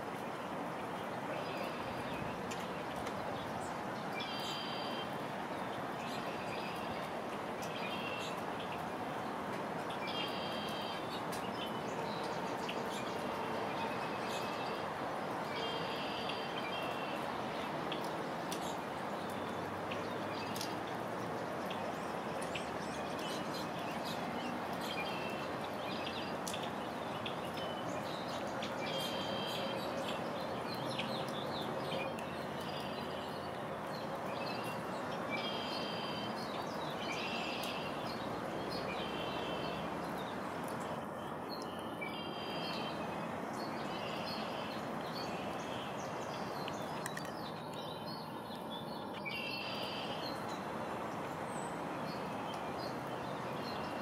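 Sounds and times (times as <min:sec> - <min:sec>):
rain hiss: 0:00.0 - 0:54.0
songbirds chirping: 0:00.0 - 0:54.0.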